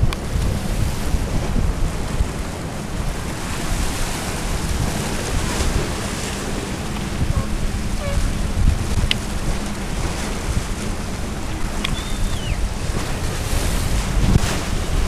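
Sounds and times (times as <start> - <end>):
choppy water washing: 0.0 - 15.0
wind buffeting microphone: 0.0 - 15.0.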